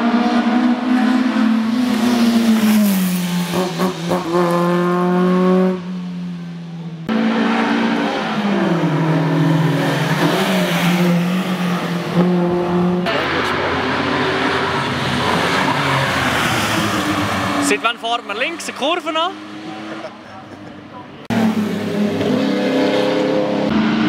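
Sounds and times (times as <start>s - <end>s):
racing car engine under load: 0.0s - 24.0s.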